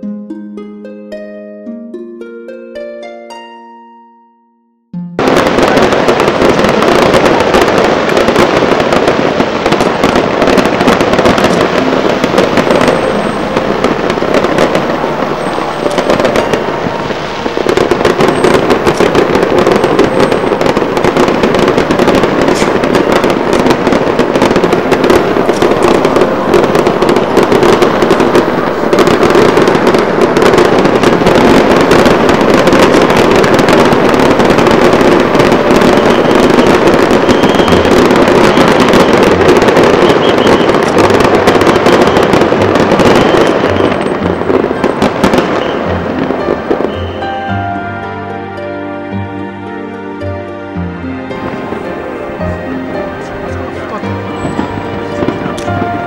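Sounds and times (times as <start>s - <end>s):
fireworks bangs and crackles: 5.1s - 48.2s, 51.0s - 56.0s.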